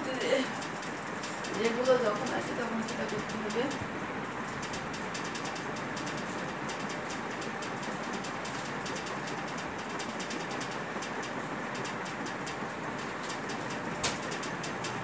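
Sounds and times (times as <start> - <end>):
rapid irregular clicking: 0.0 - 15.0.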